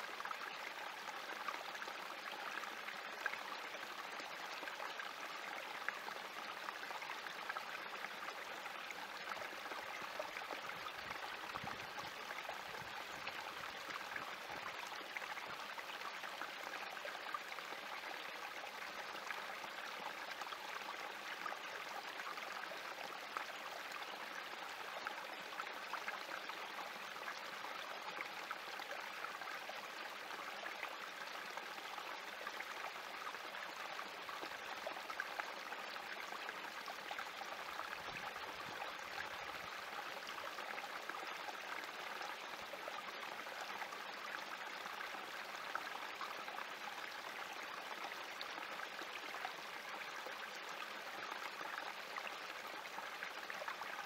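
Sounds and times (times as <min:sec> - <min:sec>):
creek trickling over rocks: 0:00.0 - 0:54.0.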